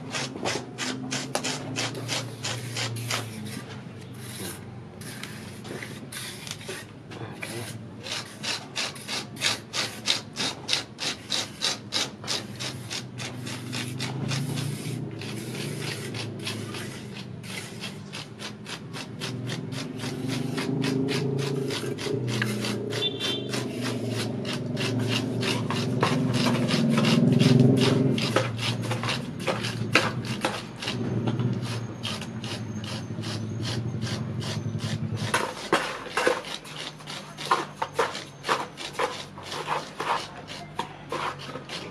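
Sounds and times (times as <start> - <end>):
fingertip scraping wet cement: 0.0 - 41.9.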